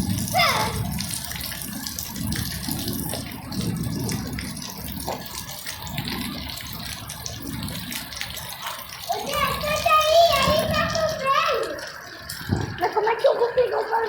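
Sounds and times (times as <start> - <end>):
water gushing and splashing: 0.0 - 14.0.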